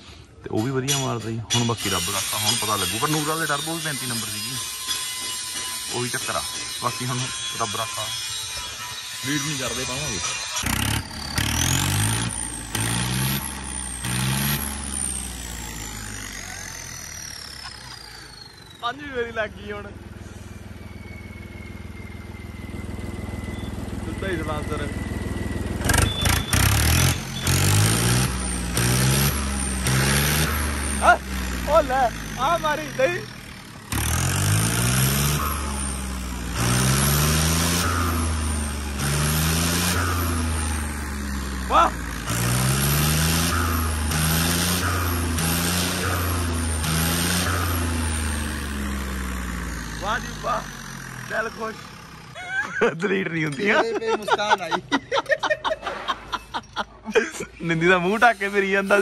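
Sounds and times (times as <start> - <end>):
diesel tractor engine revving: 0.0 - 59.0
turbocharger whistle: 1.8 - 51.8.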